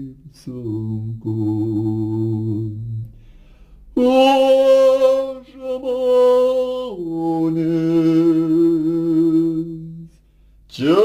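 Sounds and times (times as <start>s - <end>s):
person singing with vibrato: 0.0s - 3.1s, 3.9s - 11.0s.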